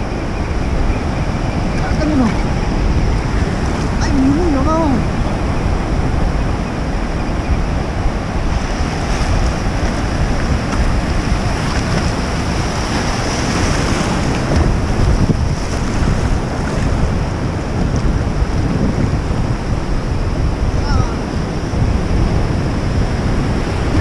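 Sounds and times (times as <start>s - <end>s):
ocean surf foaming in shallows: 0.0s - 24.0s
wind buffeting microphone: 0.0s - 24.0s.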